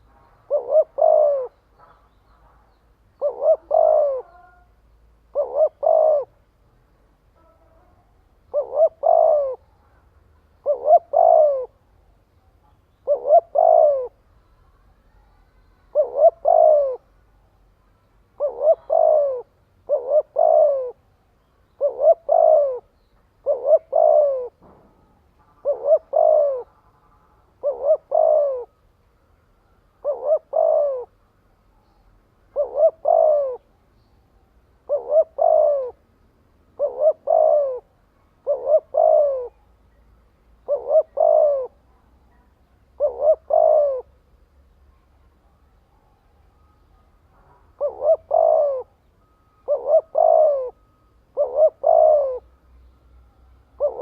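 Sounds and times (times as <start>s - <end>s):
dove cooing: 0.0s - 17.5s, 18.3s - 54.0s.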